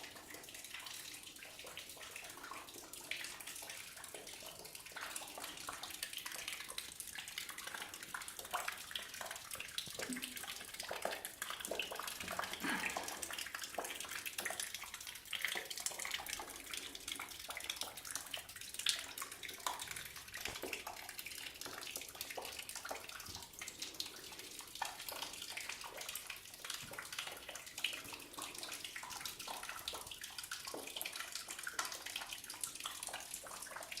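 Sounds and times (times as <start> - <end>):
water running and splashing: 0.0 - 34.0.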